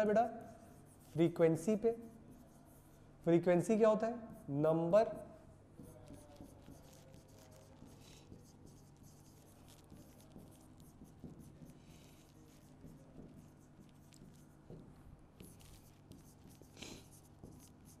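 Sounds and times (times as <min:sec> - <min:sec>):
pen writing on a board: 0:00.0 - 0:03.1, 0:04.3 - 0:18.0.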